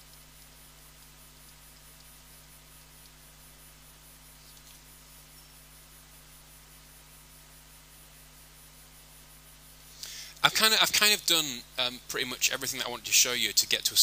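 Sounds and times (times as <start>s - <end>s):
faint electrical hum: 0.0s - 14.0s
microphone hiss: 0.0s - 14.0s.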